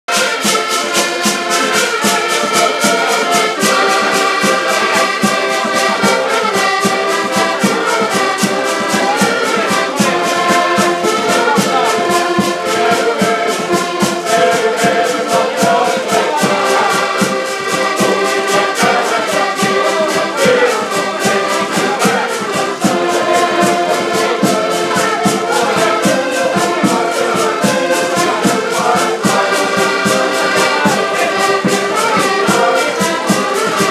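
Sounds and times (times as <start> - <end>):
accordions playing folk tune: 0.0 - 33.9
drum beat: 0.1 - 33.9.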